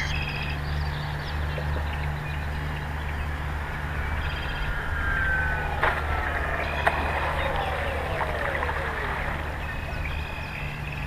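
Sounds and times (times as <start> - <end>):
distant model plane motor whine: 0.0 - 11.0
steady low hum: 0.0 - 11.0.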